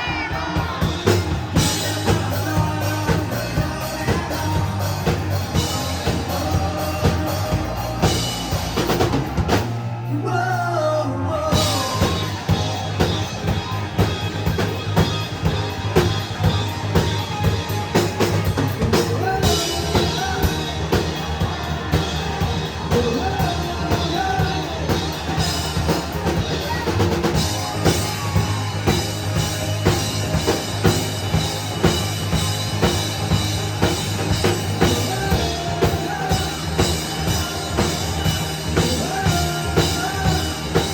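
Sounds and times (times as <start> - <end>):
person singing: 0.0 - 9.3, 10.1 - 13.8, 17.9 - 31.4, 32.6 - 40.9
drum kit beat: 0.0 - 10.6, 11.4 - 40.9
rock band playing live: 0.0 - 40.9.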